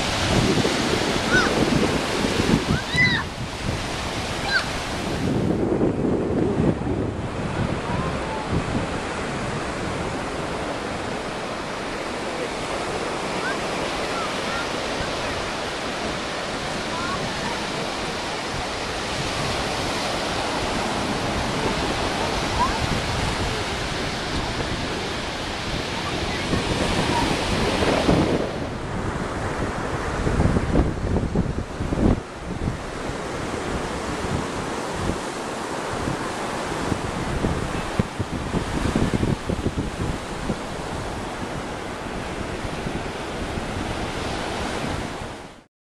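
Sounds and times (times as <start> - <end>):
wind buffeting microphone: 0.0 - 45.6
ocean surf breaking: 0.0 - 45.7.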